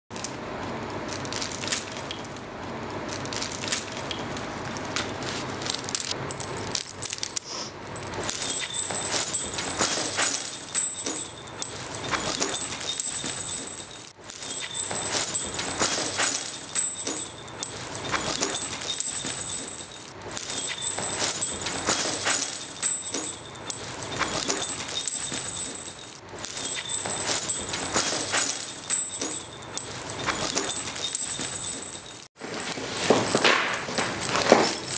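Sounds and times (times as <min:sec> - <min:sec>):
metal chains and padlocks jangling: 0:00.1 - 0:34.9.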